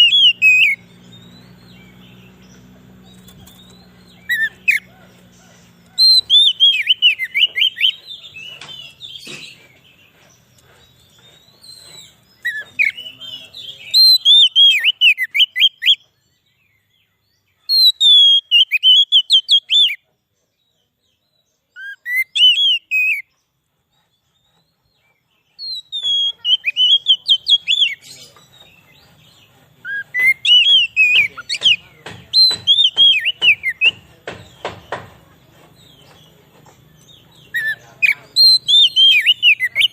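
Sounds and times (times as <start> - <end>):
bird singing whistled notes: 0.0 - 5.3, 5.9 - 39.9.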